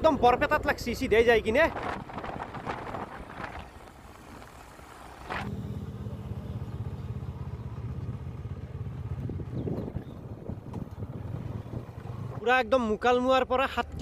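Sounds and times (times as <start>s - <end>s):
wind and road noise: 0.0s - 14.0s
motorcycle engine humming: 1.8s - 14.0s.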